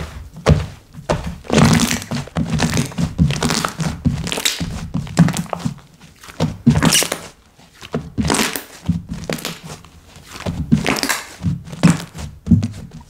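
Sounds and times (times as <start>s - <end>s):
hands squishing slime: 0.0s - 12.9s.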